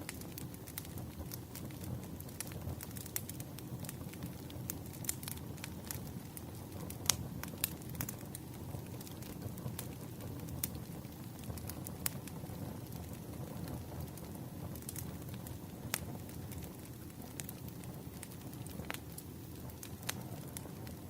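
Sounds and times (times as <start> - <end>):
burning wood crackling and popping: 0.0 - 21.0
campfire flame rumble: 0.0 - 21.0.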